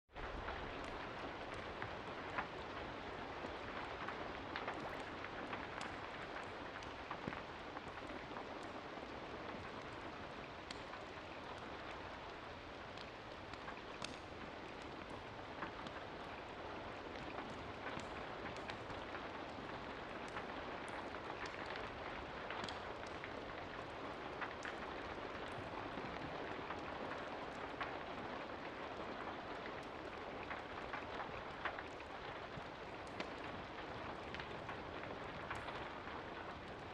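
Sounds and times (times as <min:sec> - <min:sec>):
raindrops ticking on surface: 0:00.1 - 0:36.9
steady rain: 0:00.1 - 0:36.9.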